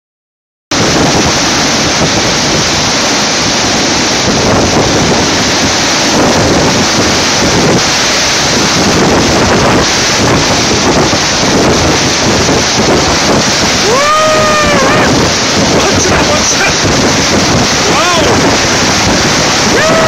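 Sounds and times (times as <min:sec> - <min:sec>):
storm surf: 0:00.7 - 0:20.0
wind blasting microphone: 0:00.7 - 0:20.0.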